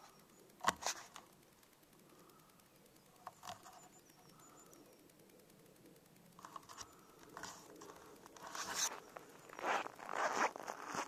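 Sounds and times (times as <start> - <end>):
faint rustles and scratches: 0.0 - 1.4, 3.1 - 11.0.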